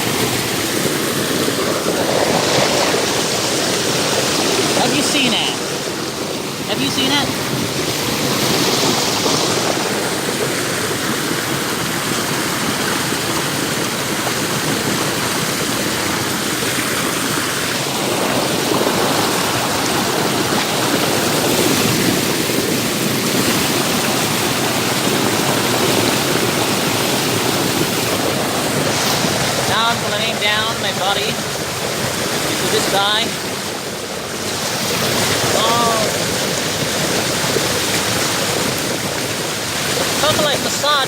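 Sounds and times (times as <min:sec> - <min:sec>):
water rushing over rocks: 0:00.0 - 0:41.0.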